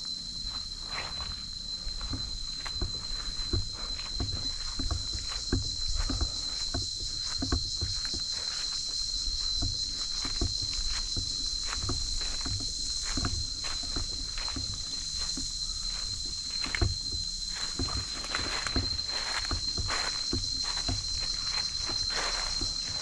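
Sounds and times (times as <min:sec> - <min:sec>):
insects droning: 0:00.0 - 0:23.0
footsteps on dirt path: 0:00.3 - 0:23.0.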